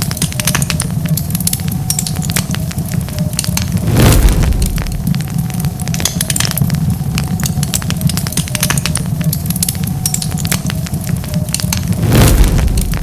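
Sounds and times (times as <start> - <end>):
low rumble of flame: 0.0 - 13.0
wood fire crackling: 0.0 - 13.0
rushing burst of fire: 2.3 - 13.0.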